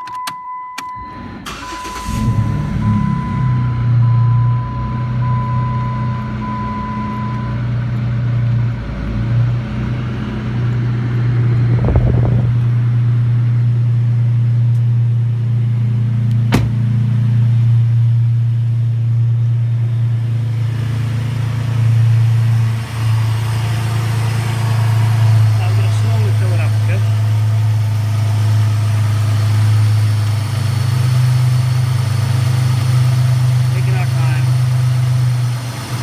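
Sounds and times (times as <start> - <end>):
car engine idling: 0.9 - 9.2, 10.0 - 36.0.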